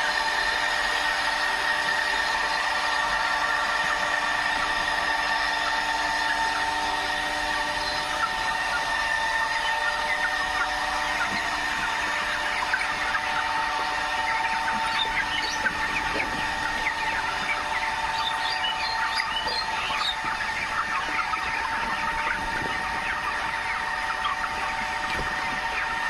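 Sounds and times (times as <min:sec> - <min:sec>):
chickens peeping and chirping: 0:00.0 - 0:26.0.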